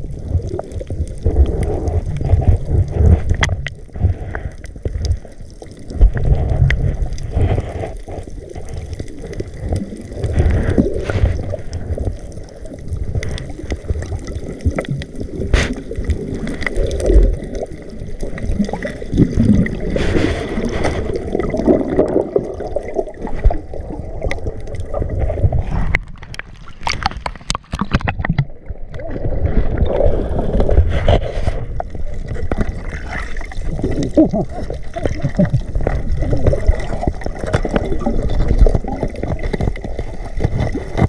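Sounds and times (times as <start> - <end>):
water gurgling and sloshing: 0.0 - 41.0.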